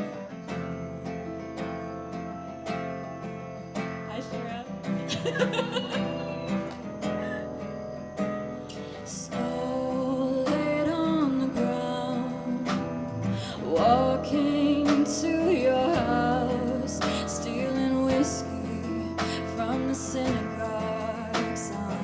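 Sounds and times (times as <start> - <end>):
acoustic guitar song: 0.0 - 22.0.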